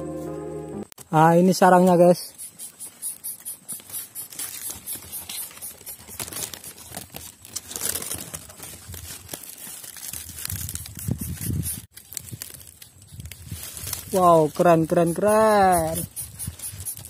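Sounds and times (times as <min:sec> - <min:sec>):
dry grass rustling and crackling: 0:01.0 - 0:17.0.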